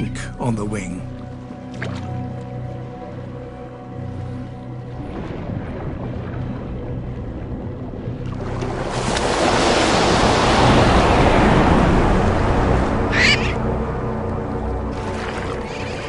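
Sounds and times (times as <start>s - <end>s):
sea water surging and breaking: 0.7s - 16.0s.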